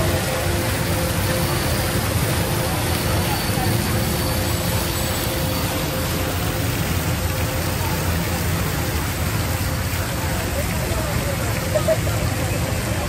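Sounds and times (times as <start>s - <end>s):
crowd chatter: 0.0s - 13.0s
traffic noise: 0.0s - 13.0s.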